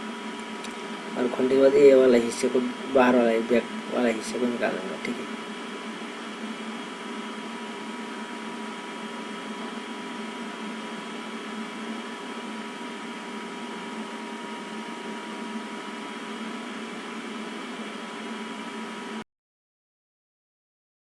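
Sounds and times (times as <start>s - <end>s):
background hum with hiss: 0.0s - 19.2s.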